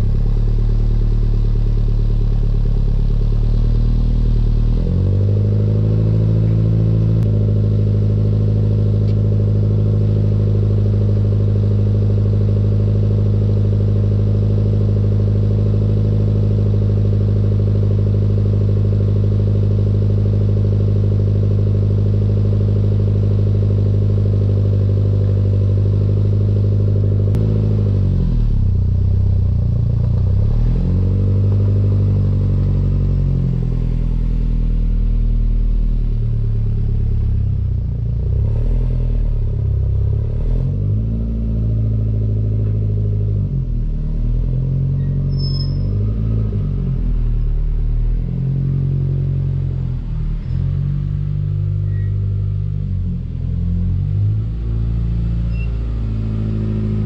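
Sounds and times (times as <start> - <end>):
car engine idling: 0.0 - 57.0
car engine revving unevenly: 0.0 - 57.0.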